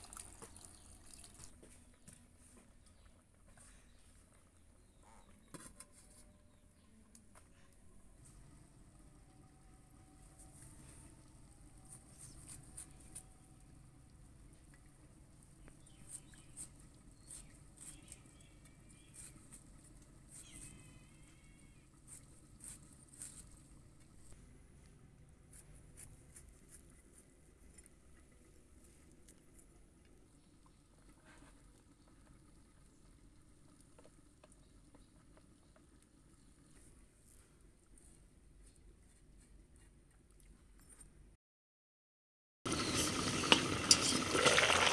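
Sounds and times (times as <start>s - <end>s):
faint background hum: 0.0s - 41.4s.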